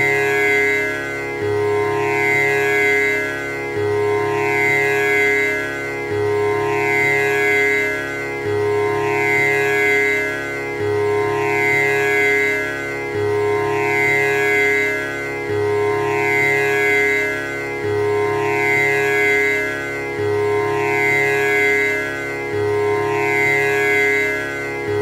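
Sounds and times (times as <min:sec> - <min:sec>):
buzzing drone: 0:00.0 - 0:25.0.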